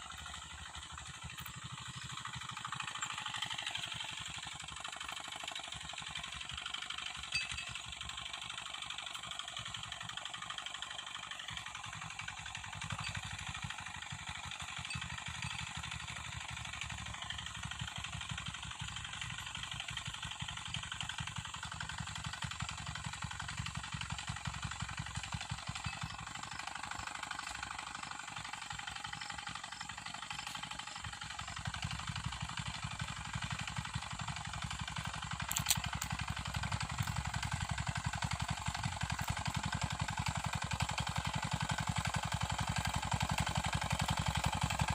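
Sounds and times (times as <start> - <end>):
small tractor engine running: 0.0 - 44.9.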